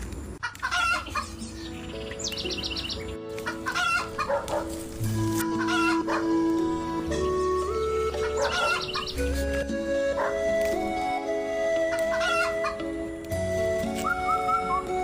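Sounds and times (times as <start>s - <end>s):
chickens calling: 0.4s - 13.0s
background music with held notes: 0.6s - 15.0s.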